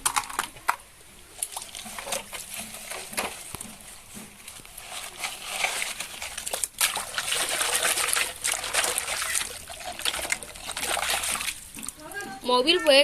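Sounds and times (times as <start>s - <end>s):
water trickling and splashing: 1.0s - 13.0s.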